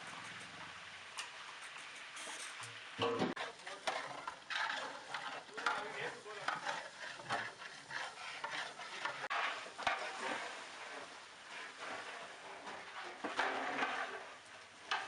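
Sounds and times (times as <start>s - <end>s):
metal ladle scraping in a pot: 1.8s - 15.0s.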